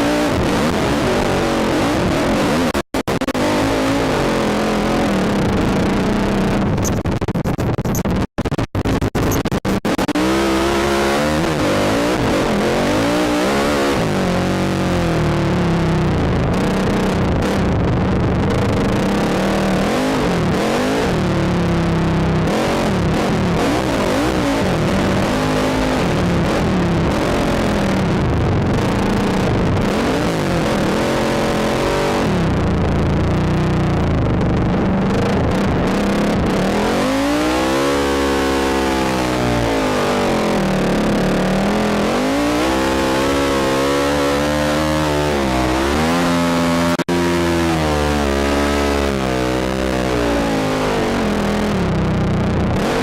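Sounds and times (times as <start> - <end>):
engine revving: 0.0 - 6.9, 9.8 - 53.0
steady rush of noise: 0.0 - 53.0.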